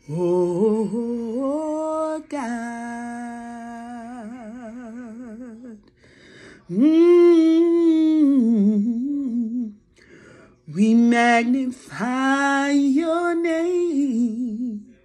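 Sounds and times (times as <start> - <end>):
woman singing a cappella: 0.0 - 9.9, 10.5 - 15.0.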